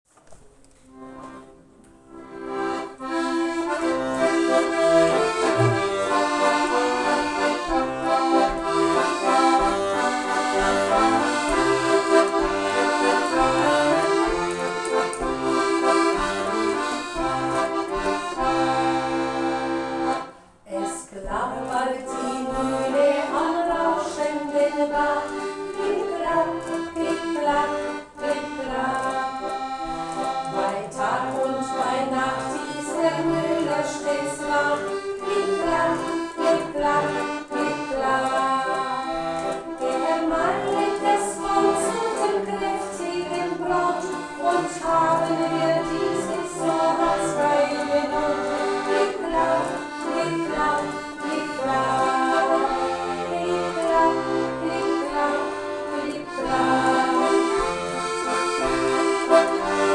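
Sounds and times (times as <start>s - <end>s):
accordion folk tune: 0.1s - 59.9s.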